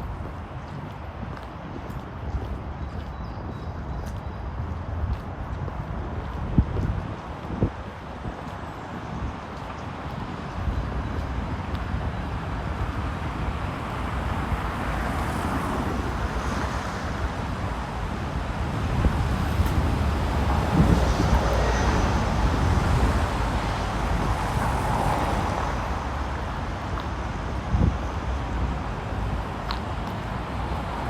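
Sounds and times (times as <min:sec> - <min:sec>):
city road traffic: 0:00.0 - 0:31.0
wind buffeting microphone: 0:00.0 - 0:31.0.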